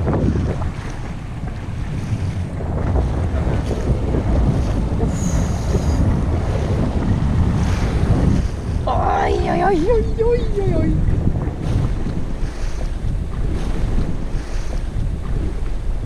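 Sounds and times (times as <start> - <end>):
choppy sea wash: 0.0 - 16.0
wind buffeting microphone: 0.0 - 16.0.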